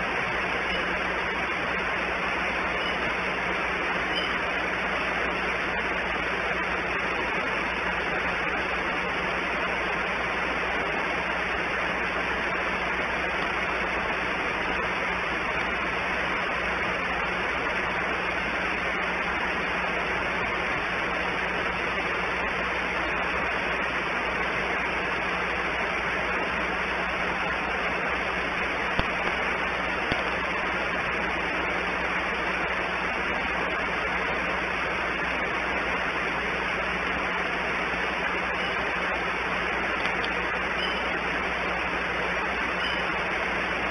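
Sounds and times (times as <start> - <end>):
constant low hum: 0.0 - 43.9.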